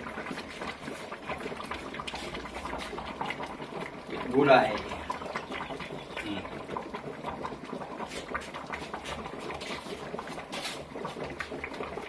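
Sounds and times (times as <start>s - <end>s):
liquid dripping: 0.0s - 12.0s.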